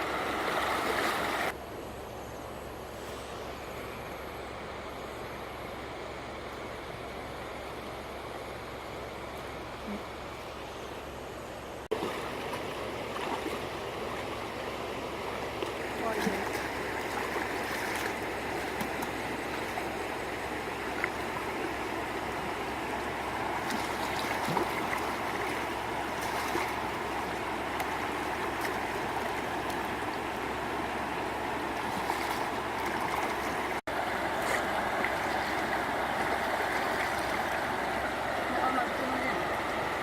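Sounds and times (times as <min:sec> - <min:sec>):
flowing water rushing: 0:00.0 - 0:01.6, 0:04.3 - 0:40.0.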